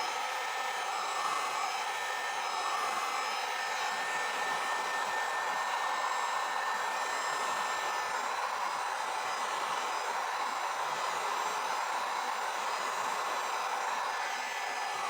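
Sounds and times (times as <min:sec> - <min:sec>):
hot-air blower running: 0:00.0 - 0:15.0.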